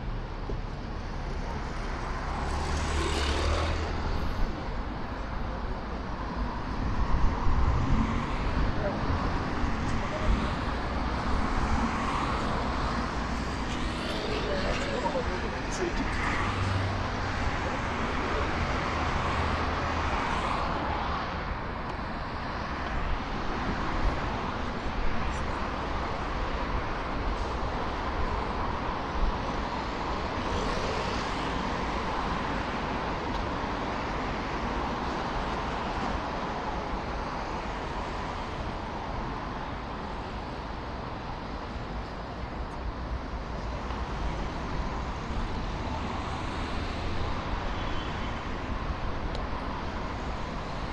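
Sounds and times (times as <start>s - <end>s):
road traffic noise: 0.0s - 50.9s.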